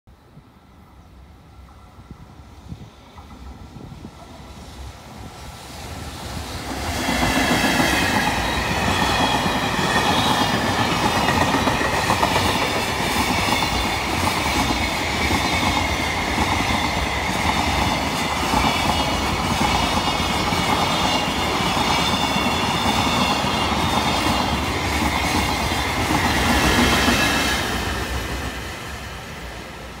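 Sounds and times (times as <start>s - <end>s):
freight train wheels rumbling: 0.9s - 30.0s.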